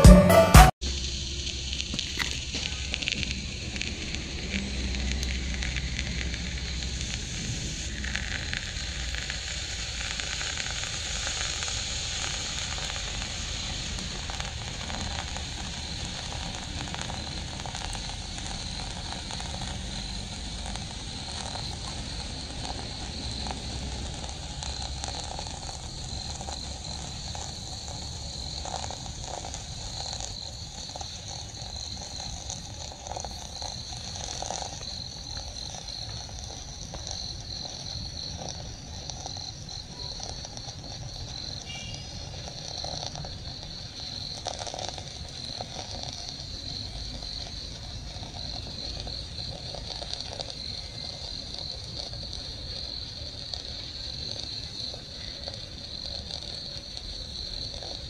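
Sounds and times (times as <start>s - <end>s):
smoke firework hissing: 0.3s - 58.0s.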